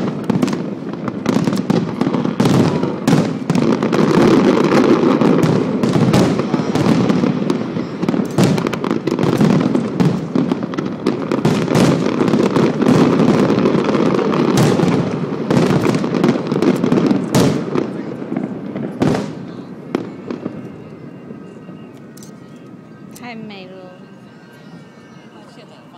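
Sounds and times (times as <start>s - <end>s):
fireworks bangs and crackle: 0.0s - 25.9s.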